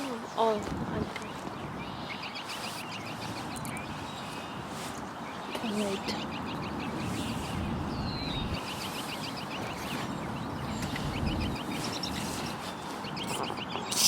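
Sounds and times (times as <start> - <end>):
outdoor noise haze: 0.0 - 14.0
small birds chirping: 0.0 - 14.0.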